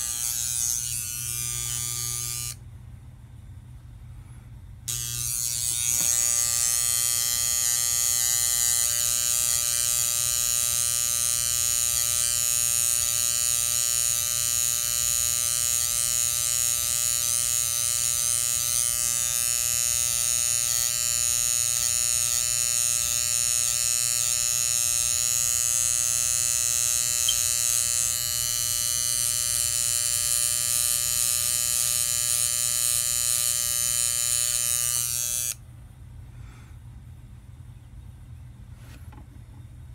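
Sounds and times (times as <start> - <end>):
electric hair trimmer buzzing: 0.0 - 2.6, 4.8 - 35.6.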